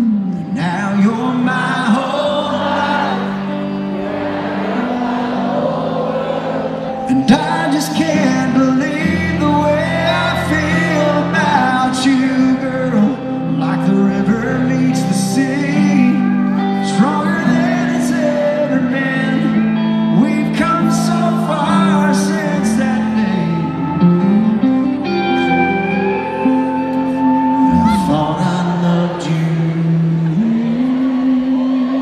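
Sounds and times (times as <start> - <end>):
country band playing: 0.0 - 32.0
electric guitar with bent notes: 0.0 - 32.0.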